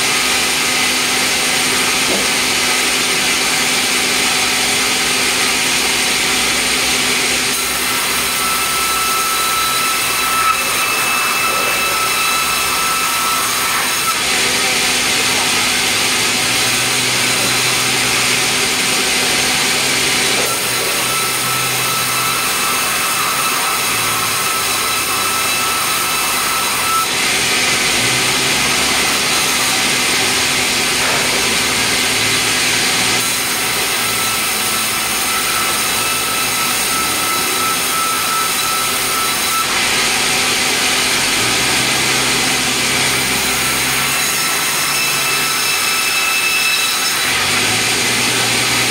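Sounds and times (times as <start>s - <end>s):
band saw cutting timber: 0.0s - 48.9s.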